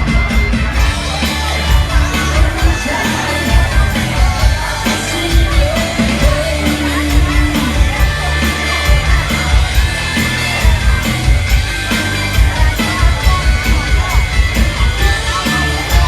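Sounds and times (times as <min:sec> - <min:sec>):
bass: 0:00.0 - 0:16.0
crowd shouts: 0:00.0 - 0:16.0
drums keeping a steady beat: 0:00.0 - 0:16.0
singing: 0:00.0 - 0:16.0.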